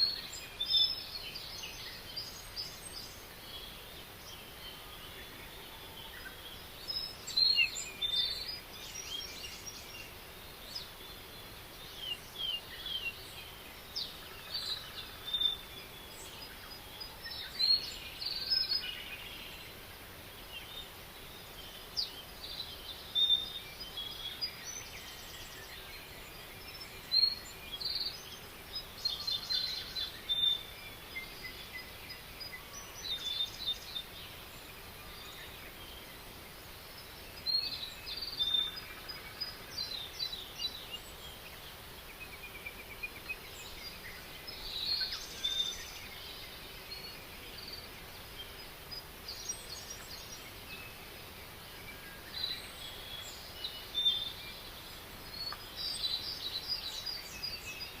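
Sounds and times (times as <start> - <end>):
faint steady hiss: 0.0 - 58.0
songbirds chirping and trilling: 0.0 - 58.0.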